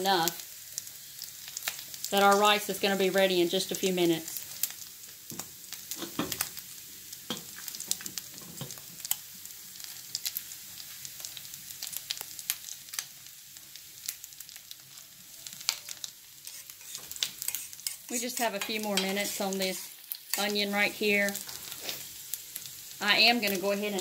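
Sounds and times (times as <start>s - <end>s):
fat crackling and popping: 0.0s - 24.0s
sausages sizzling in a skillet: 0.0s - 24.0s.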